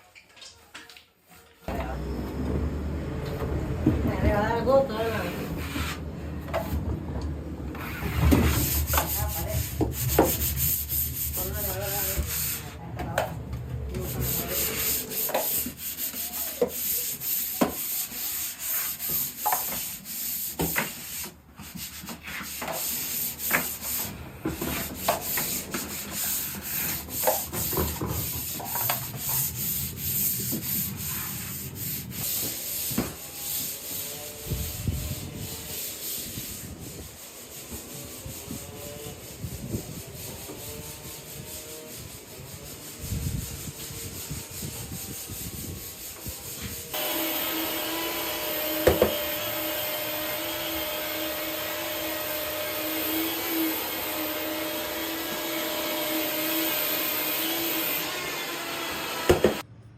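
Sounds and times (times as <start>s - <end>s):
hand tool scraping wall: 1.7s - 59.7s.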